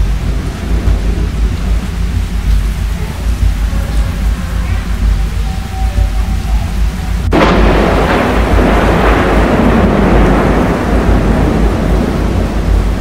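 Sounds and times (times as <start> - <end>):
thunder rumble: 0.0 - 13.0
thunderclap crack: 0.0 - 13.0.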